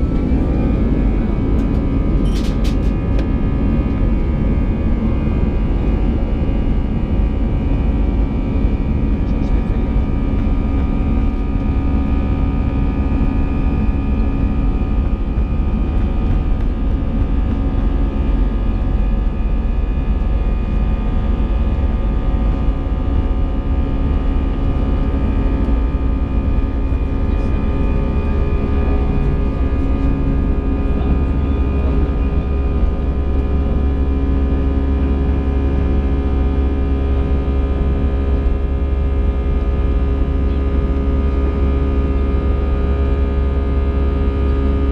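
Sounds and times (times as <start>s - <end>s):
jet engine rumble: 0.0s - 44.9s
steady whining tones: 0.0s - 44.9s.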